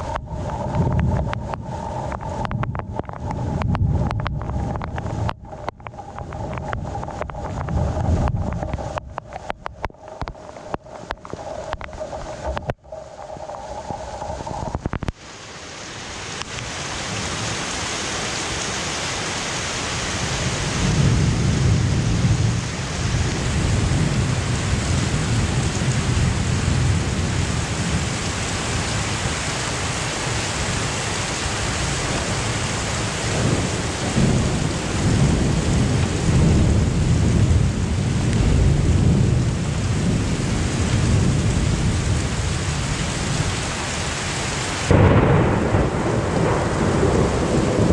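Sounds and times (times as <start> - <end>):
thunder rumbling: 0.0 - 15.2, 20.2 - 47.9
heavy rain: 0.0 - 47.9.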